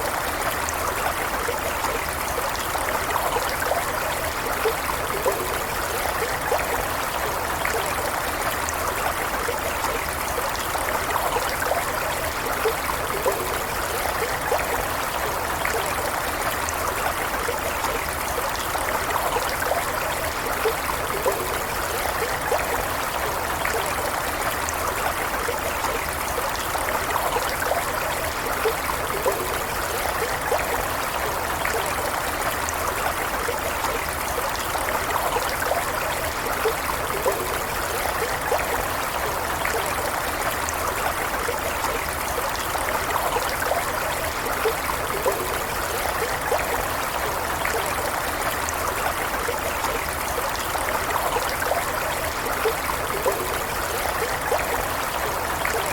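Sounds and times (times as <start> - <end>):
stream of running water: 0.0 - 55.9.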